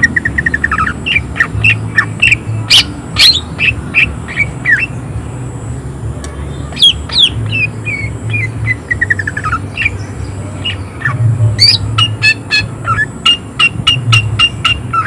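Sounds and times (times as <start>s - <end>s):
bird singing whistled notes: 0.0s - 5.0s, 6.5s - 15.0s
steady low hum: 0.0s - 15.0s.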